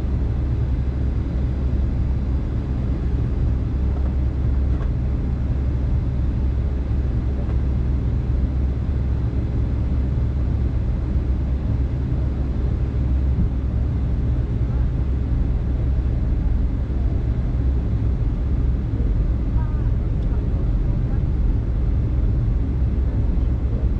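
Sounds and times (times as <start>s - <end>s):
jet engines rumbling: 0.0s - 23.9s.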